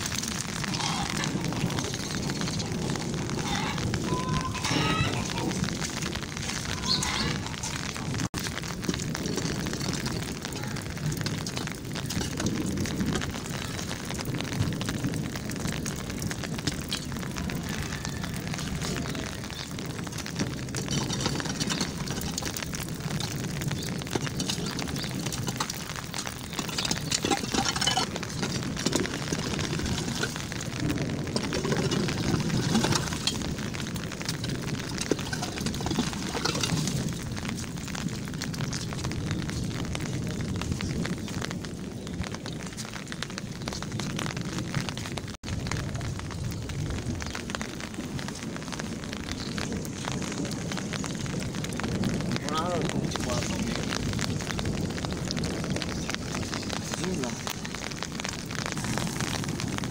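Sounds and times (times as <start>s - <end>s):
continuous rushing noise: 0.0s - 59.9s.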